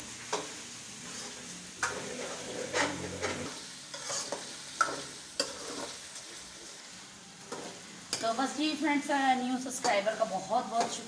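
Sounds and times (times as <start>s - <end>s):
chicken sizzling in oil: 0.0s - 11.0s
metal spoon scraping a pan: 0.3s - 6.8s, 7.4s - 8.8s, 9.7s - 11.0s.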